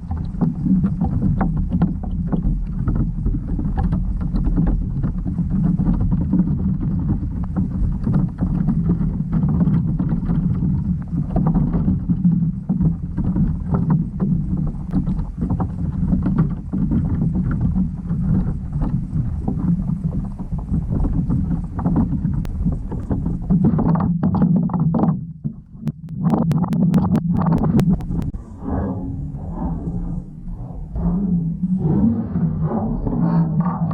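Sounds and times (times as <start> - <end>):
underwater rumble with clicks: 0.0 - 33.9.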